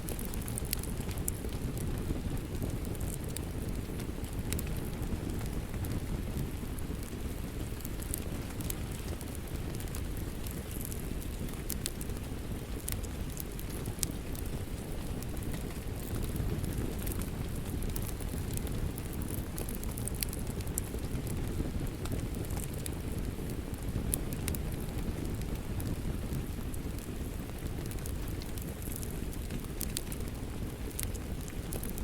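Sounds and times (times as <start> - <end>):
rain: 0.0 - 32.0
wood fire crackling and popping: 0.0 - 32.0.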